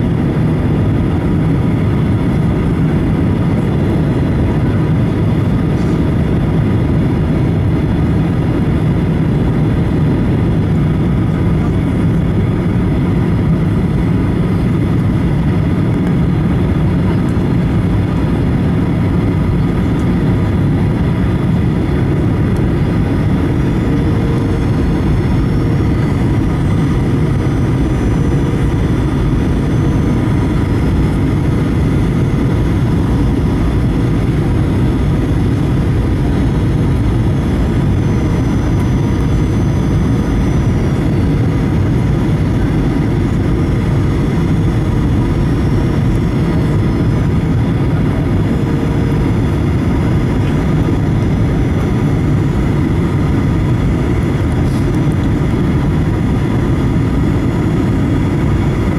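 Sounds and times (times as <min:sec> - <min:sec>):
jet engines and airflow roar: 0:00.0 - 0:58.9.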